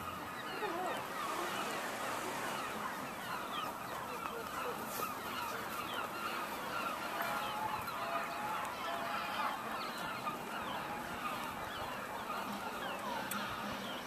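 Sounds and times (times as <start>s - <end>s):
gulls calling: 0.0s - 14.0s.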